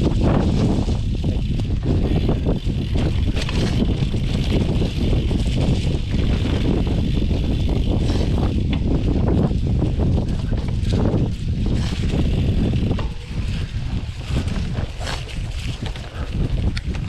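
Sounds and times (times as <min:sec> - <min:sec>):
bike knocks and rattles: 0:00.0 - 0:17.0
wind buffeting microphone: 0:00.0 - 0:17.0.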